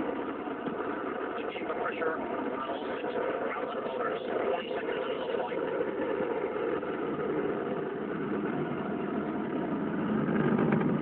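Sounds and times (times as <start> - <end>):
rocket engines roaring: 0.0 - 11.0.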